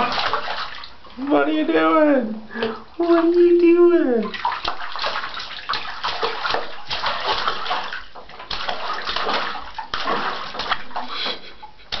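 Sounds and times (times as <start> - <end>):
baby splashing water in bathtub: 0.0 - 12.0.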